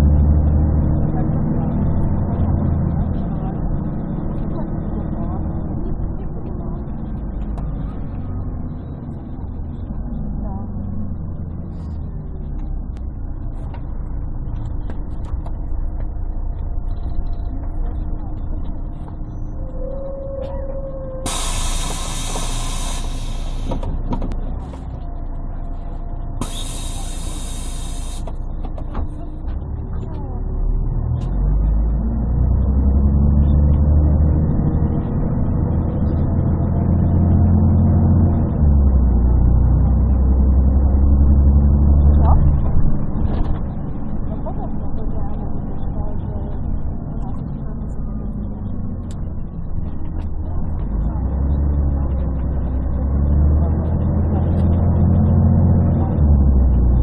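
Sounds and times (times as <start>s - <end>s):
muffled bus engine drone: 0.0s - 57.0s.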